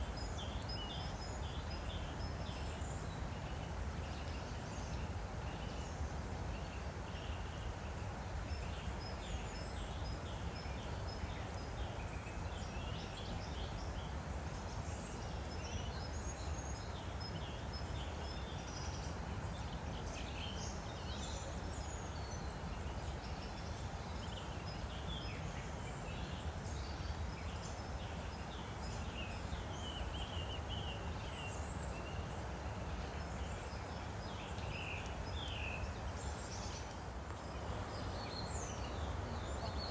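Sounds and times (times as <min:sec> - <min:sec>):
small birds chirping: 0:00.0 - 0:39.9
stream rushing: 0:00.0 - 0:39.9.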